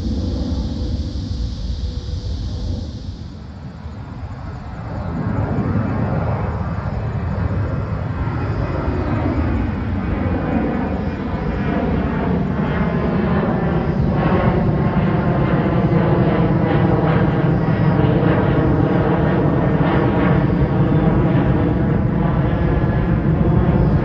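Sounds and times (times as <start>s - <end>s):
jet engine roar and whine: 0.0s - 24.0s.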